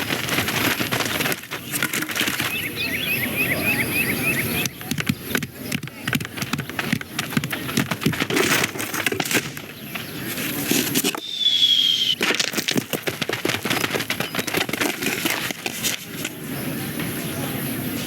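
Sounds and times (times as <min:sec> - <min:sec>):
dense crackling and clicking: 0:00.0 - 0:02.8, 0:04.6 - 0:16.4.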